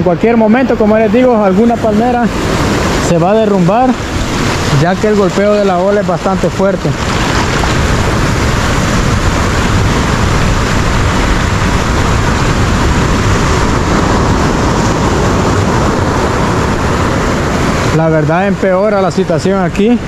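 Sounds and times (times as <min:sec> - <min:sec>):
waves breaking on shore: 0:00.0 - 0:20.0.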